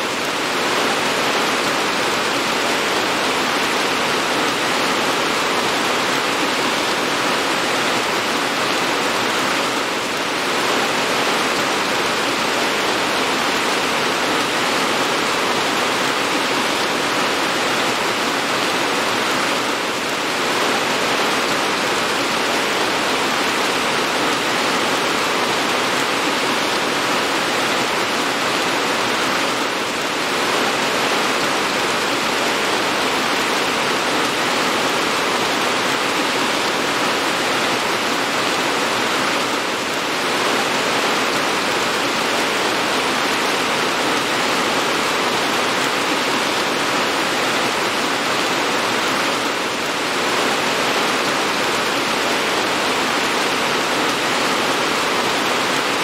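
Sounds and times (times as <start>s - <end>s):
steady dense rain: 0.0s - 56.0s.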